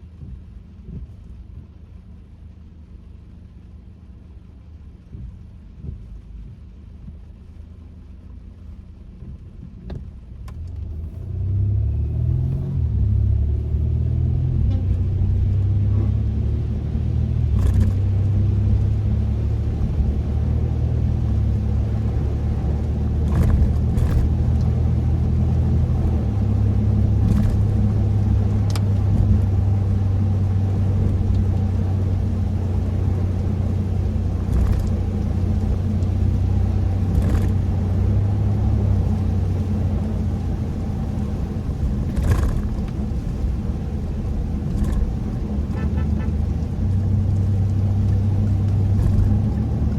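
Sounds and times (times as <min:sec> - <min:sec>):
car engine and road rumble: 0:00.0 - 0:49.9.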